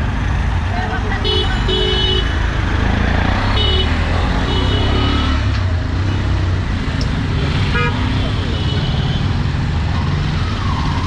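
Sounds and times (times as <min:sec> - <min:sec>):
auto-rickshaw engines running: 0:00.0 - 0:11.0.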